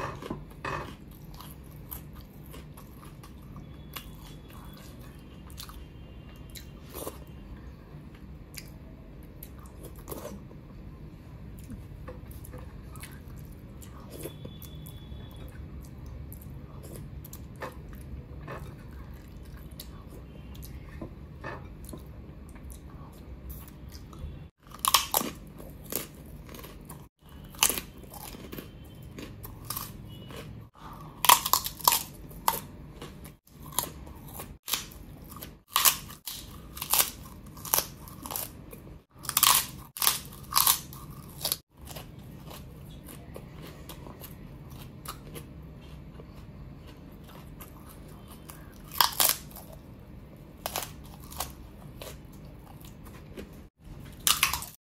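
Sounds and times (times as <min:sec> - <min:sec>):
crunching and chewing: 0:00.0 - 0:10.8, 0:11.5 - 0:54.8.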